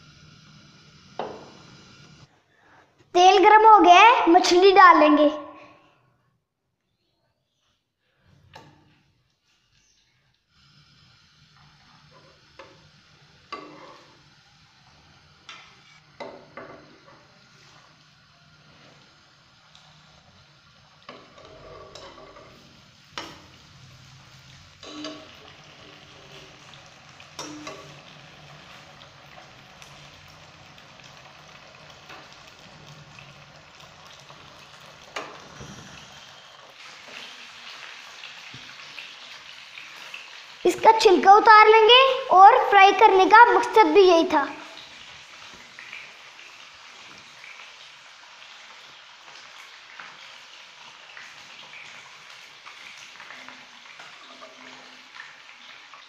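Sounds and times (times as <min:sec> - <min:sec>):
fish sizzling in oil: 0:00.0 - 0:02.3, 0:08.6 - 0:56.0.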